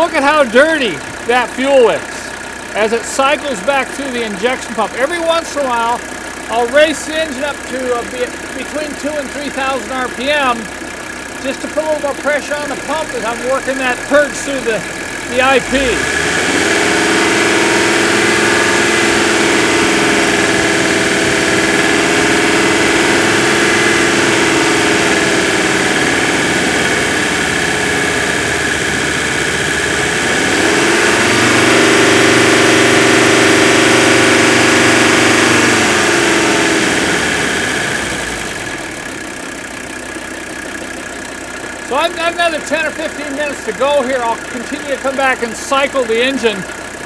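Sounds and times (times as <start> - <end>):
diesel engine revving: 0.0 - 47.0.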